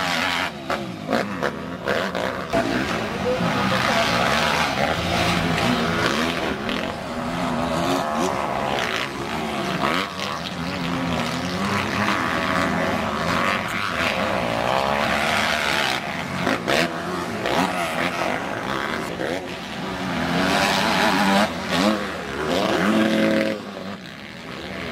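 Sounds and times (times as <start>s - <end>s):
motocross bike engines revving: 0.0s - 24.9s.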